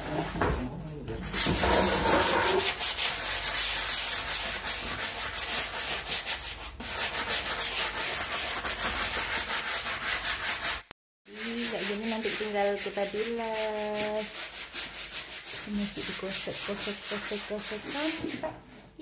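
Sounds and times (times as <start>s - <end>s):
brush scrubbing wet concrete: 1.2s - 18.5s.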